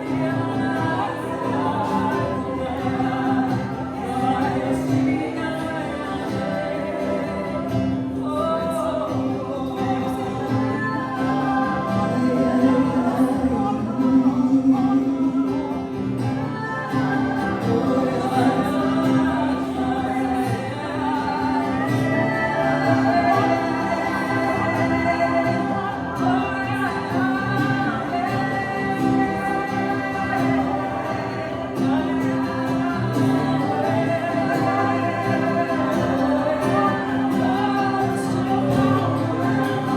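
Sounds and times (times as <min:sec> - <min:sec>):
congregation singing: 0:00.0 - 0:39.9.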